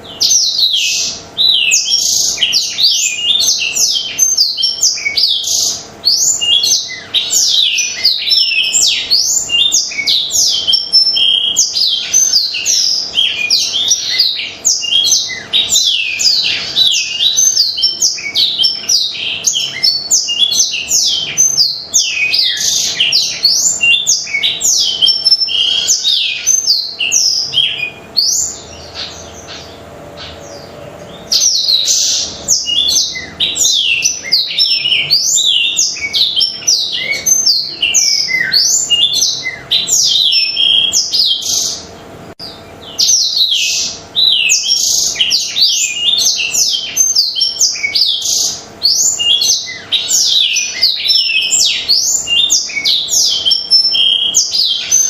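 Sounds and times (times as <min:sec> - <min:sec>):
canary singing high trills: 0:00.0 - 0:55.0.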